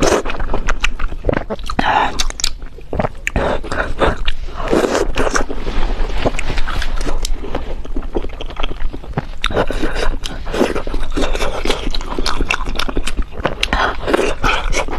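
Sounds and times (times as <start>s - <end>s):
crunchy mouth clicks: 0.0s - 5.5s, 6.1s - 14.9s
chewing food: 0.0s - 14.9s.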